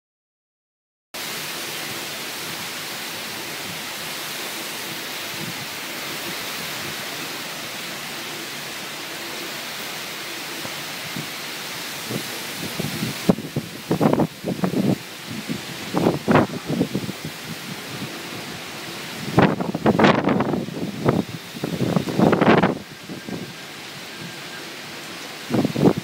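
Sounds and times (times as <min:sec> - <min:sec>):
driving rain: 0:01.2 - 0:26.0
typhoon wind: 0:01.2 - 0:26.0.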